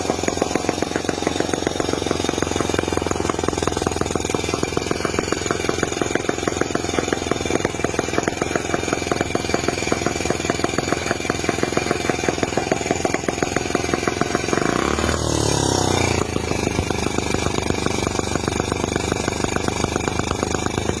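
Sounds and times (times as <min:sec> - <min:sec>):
model engine running: 0:00.0 - 0:21.0.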